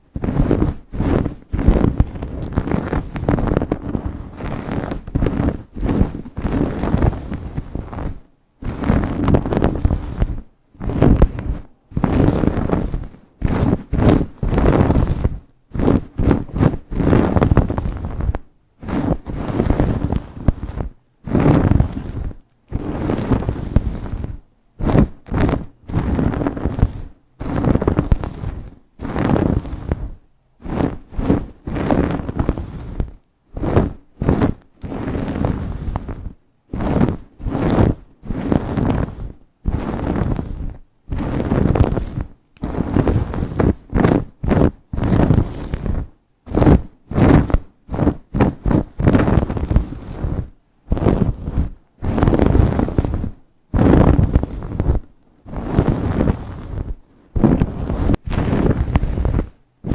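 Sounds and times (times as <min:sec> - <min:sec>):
nails scratching through hair: 0:00.0 - 0:59.9.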